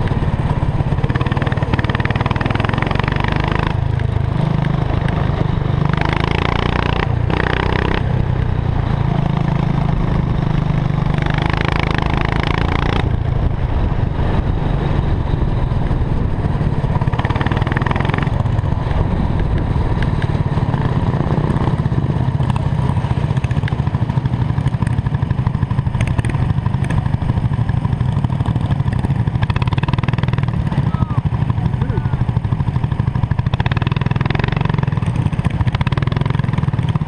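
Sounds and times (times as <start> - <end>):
go-kart engine running: 0.0 - 37.0.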